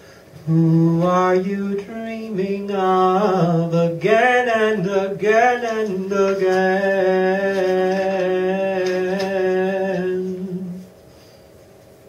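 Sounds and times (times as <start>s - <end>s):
man singing a held note: 0.4s - 10.9s.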